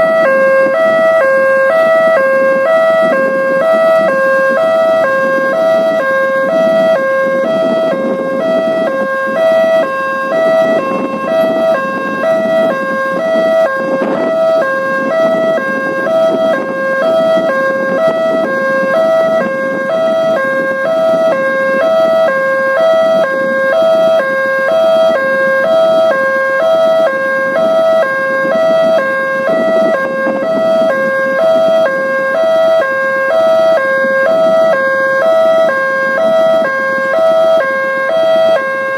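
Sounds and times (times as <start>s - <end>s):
two-tone electronic alarm: 0.0s - 38.9s.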